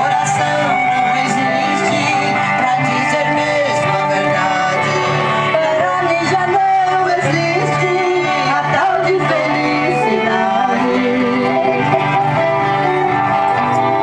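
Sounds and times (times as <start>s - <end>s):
guitar: 0.0s - 14.0s
person singing over loudspeakers: 0.0s - 14.0s.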